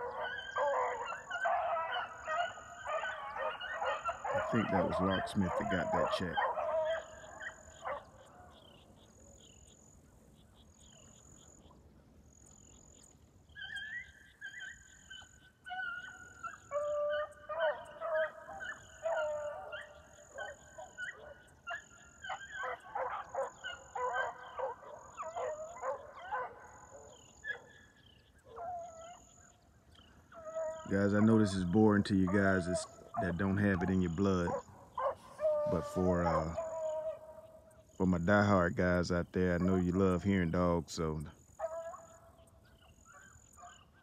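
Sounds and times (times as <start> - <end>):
hounds baying: 0.0 - 10.0, 13.5 - 44.0.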